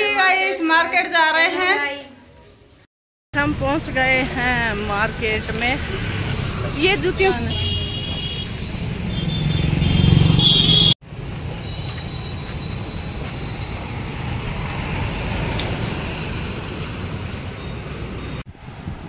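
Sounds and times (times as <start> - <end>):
street traffic noise: 1.5 - 19.0.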